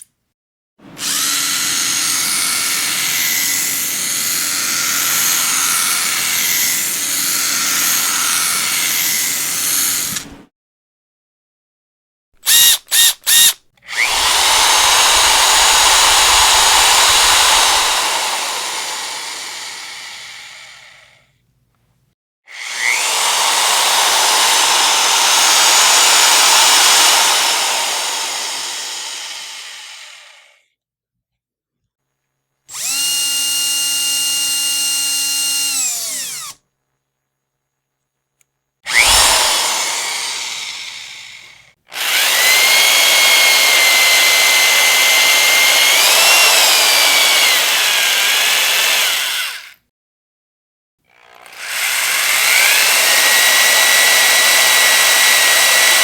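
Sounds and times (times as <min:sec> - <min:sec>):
electric power drill whining: 0:00.9 - 0:10.4, 0:12.4 - 0:21.2, 0:22.5 - 0:30.6, 0:32.7 - 0:36.6, 0:38.9 - 0:49.8, 0:51.1 - 0:56.0.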